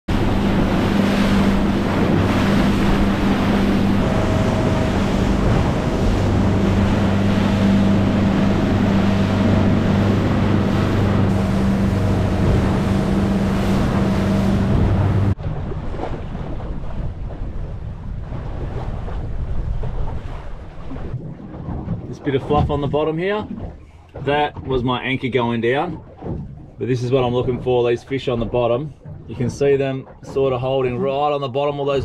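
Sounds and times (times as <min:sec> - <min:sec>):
boat motor droning: 0:00.0 - 0:32.0
water rushing along hull: 0:00.0 - 0:32.0
wind buffeting microphone: 0:00.1 - 0:27.8.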